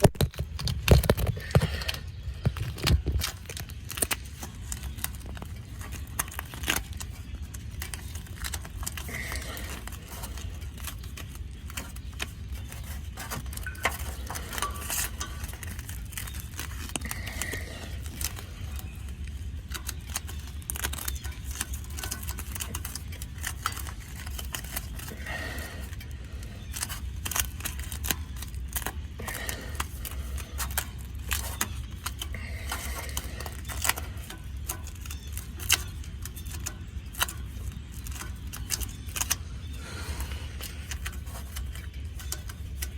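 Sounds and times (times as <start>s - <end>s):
steady low rumble: 0.0s - 42.9s
tape crinkling and clicking: 0.0s - 42.9s.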